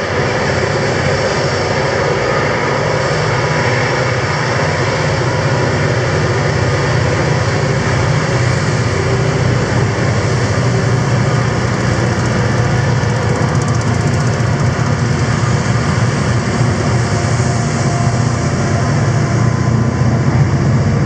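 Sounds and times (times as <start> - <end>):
locomotive engines droning: 0.0 - 21.0
train on rails: 0.0 - 21.0.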